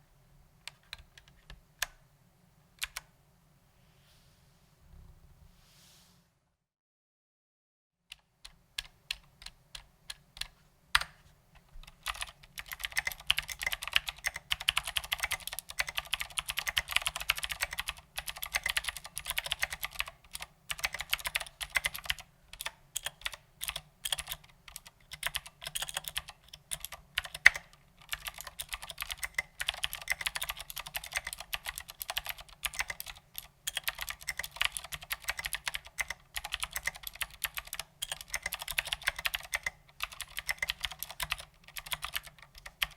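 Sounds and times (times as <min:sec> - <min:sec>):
mechanical keyboard typing: 0:08.1 - 0:42.9.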